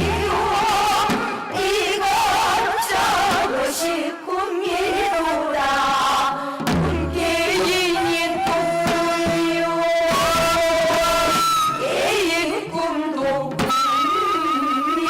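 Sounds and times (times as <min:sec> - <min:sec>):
folk singing with instruments: 0:00.0 - 0:15.0.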